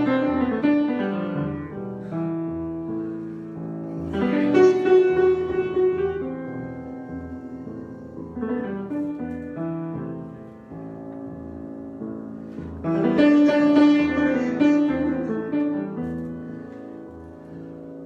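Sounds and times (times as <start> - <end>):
solo piano: 0.0 - 18.0.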